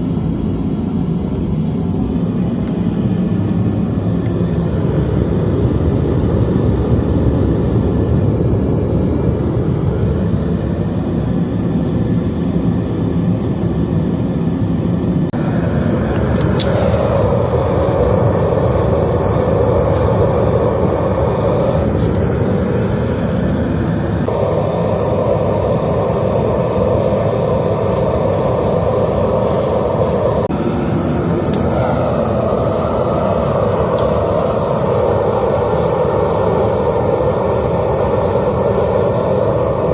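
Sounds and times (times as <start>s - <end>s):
furnace burner roaring: 0.0s - 39.9s.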